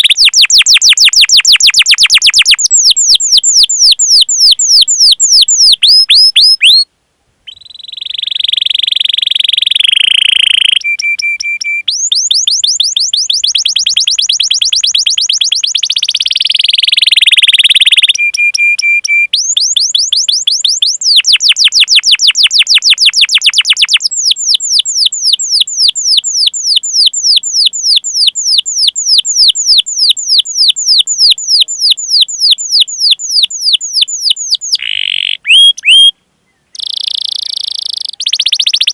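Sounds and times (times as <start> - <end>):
canary singing: 0.0 - 6.9, 7.5 - 38.9.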